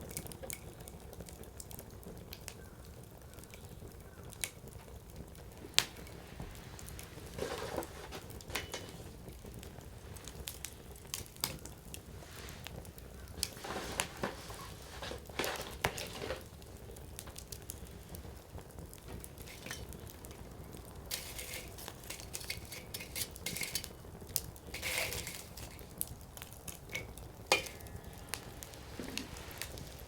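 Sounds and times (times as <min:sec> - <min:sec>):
fire hissing flare-ups: 0:00.0 - 0:30.0
firewood crackling and popping: 0:00.0 - 0:30.0.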